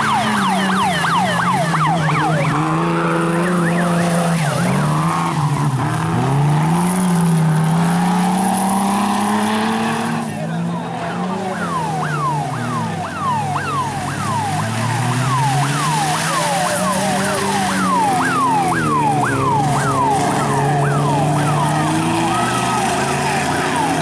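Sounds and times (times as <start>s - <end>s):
siren sweeping: 0.0s - 24.0s
vehicle engine drone: 0.0s - 24.0s.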